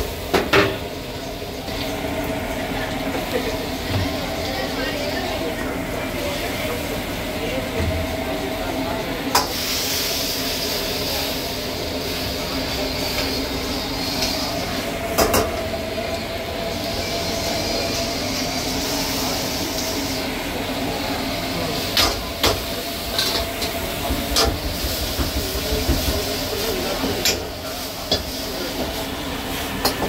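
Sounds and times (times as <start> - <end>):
food sizzling in wok: 0.0 - 7.4, 9.3 - 30.0
gas burner rushing: 0.0 - 30.0.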